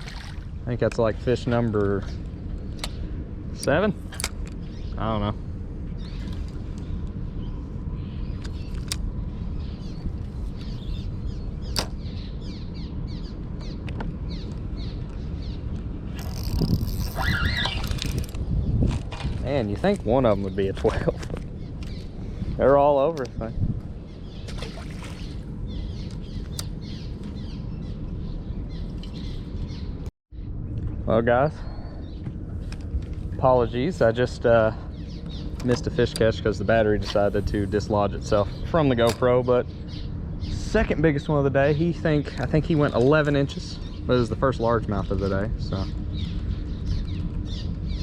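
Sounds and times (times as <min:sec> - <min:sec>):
low wind noise: 0:00.0 - 0:48.0
steady low rumble: 0:00.0 - 0:48.0
small birds chirping: 0:00.1 - 0:48.0.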